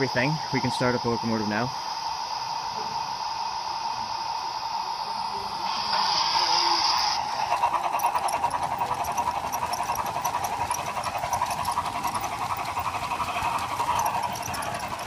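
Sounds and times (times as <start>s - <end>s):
steam engine chuffing from speaker: 0.0s - 15.0s.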